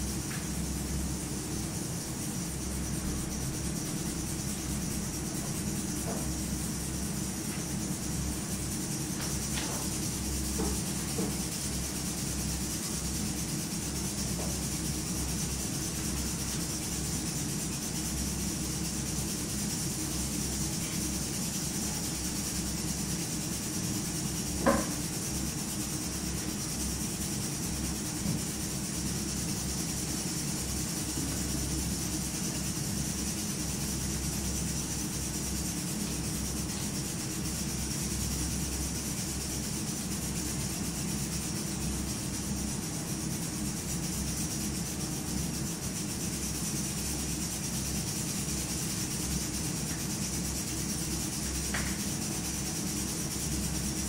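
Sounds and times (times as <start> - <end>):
room tone hum and hiss: 0.0 - 54.0.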